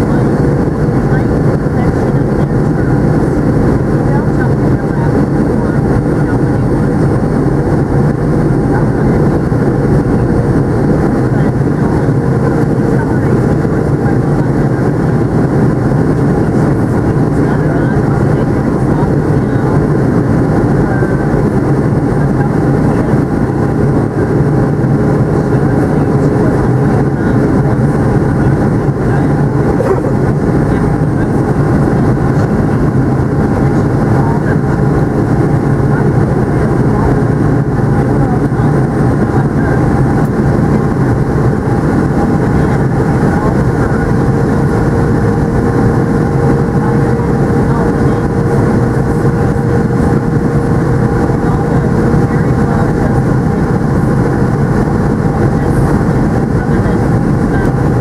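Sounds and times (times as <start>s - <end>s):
jet engine and airflow rush: 0.0s - 58.0s.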